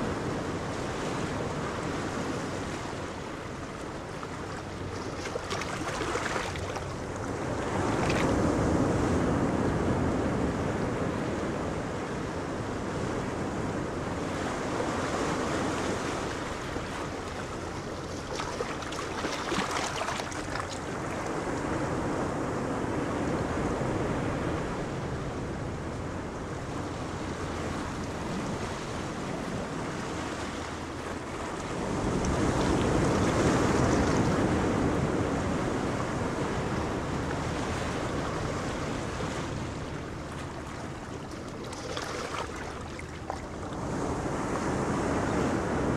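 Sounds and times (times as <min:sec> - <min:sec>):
sea waves: 0:00.0 - 0:45.9
wind gusting across microphone: 0:05.7 - 0:45.9.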